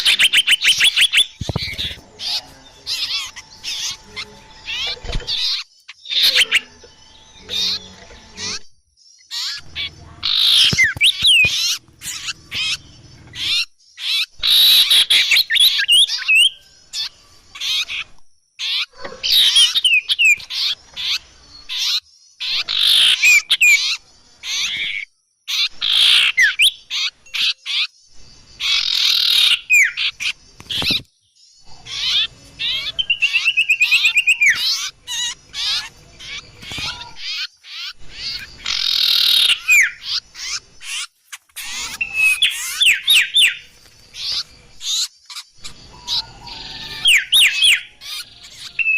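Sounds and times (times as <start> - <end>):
fast repeated bird notes: 0.0 - 48.9
songbird calls and trills: 0.0 - 48.9.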